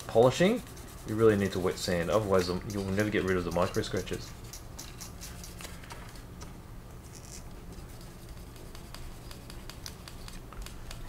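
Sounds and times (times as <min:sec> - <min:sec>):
light sanding scratching: 0:00.0 - 0:05.8, 0:07.1 - 0:11.0.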